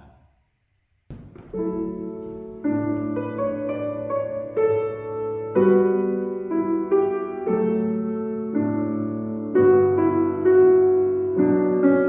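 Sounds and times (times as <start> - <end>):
slow gentle piano music: 1.2 - 12.0.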